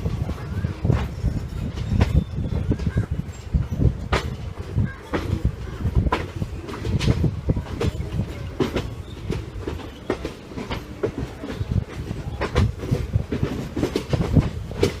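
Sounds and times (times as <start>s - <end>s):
train coach rumbling on track: 0.0s - 15.0s
wheels clicking over rail joints: 0.0s - 15.0s.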